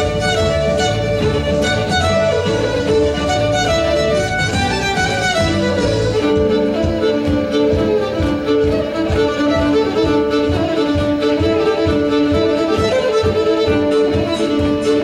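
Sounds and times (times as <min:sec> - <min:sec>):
fast fiddle tune: 0:00.0 - 0:15.0
instruments keeping driving beat: 0:00.0 - 0:15.0.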